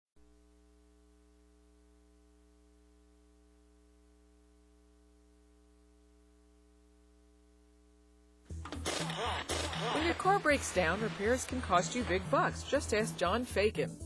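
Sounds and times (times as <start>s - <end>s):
faint electrical hum with hiss: 0.2s - 13.4s.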